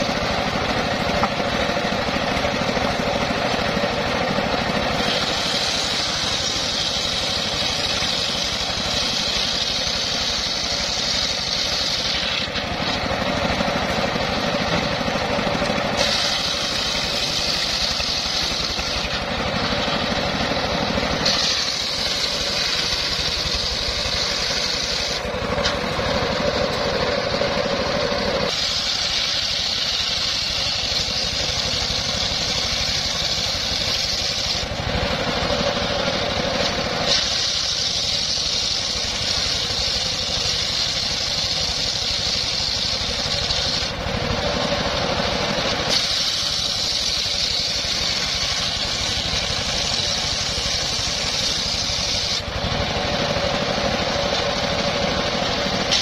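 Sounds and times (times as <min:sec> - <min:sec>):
circular saw cutting wood: 0:00.0 - 0:56.0
engine running steadily: 0:00.0 - 0:56.0.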